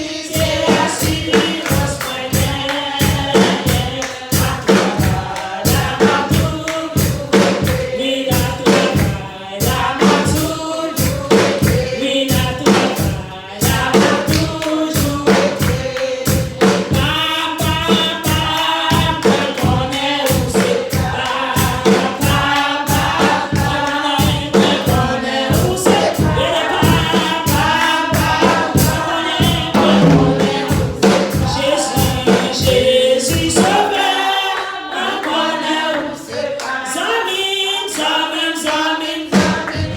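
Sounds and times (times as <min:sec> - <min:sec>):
steady drum beat: 0:00.0 - 0:34.1, 0:39.3 - 0:39.9
congregation singing: 0:00.0 - 0:39.9.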